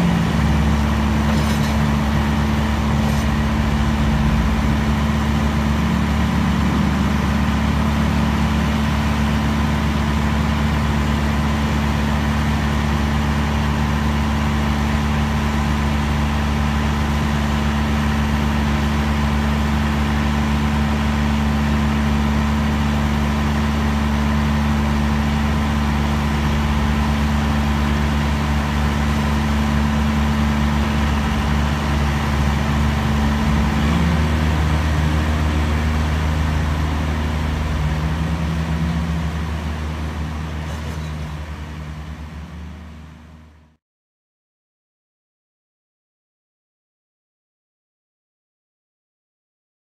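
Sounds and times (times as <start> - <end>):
tractor diesel engine running: 0.0 - 43.7
other tractor engines nearby: 0.0 - 43.8.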